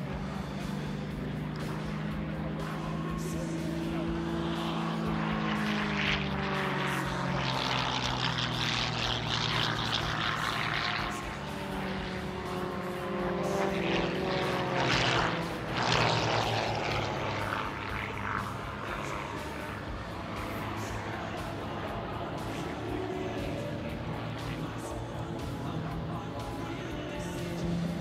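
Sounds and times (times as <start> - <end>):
plane engine running hard: 0.0 - 28.0.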